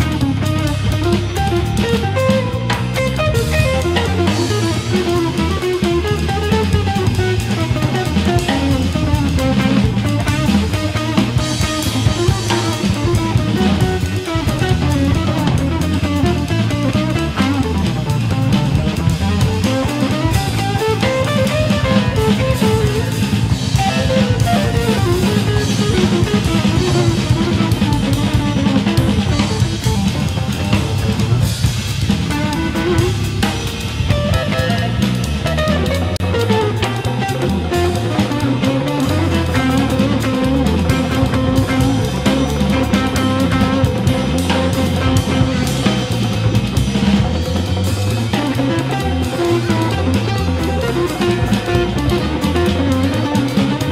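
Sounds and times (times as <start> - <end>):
bass and guitar: 0.0 - 53.9
drum kit beat: 0.0 - 53.9.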